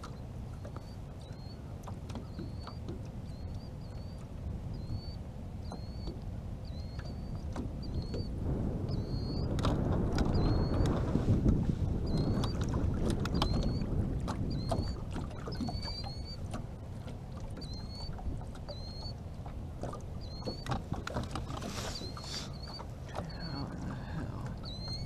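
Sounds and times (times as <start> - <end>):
wind and water rumbling: 0.0 - 25.0.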